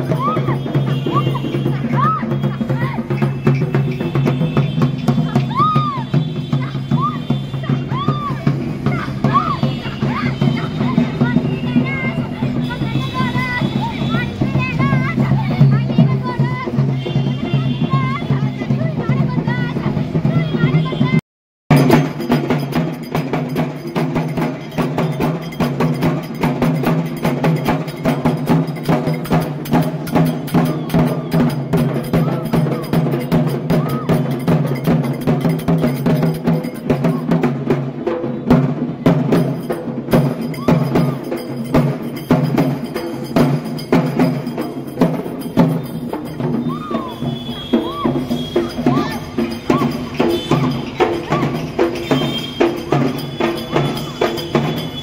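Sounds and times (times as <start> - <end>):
clinking metallic percussion: 0.0 - 21.1, 21.7 - 55.0
fast dense drumming: 0.0 - 55.0.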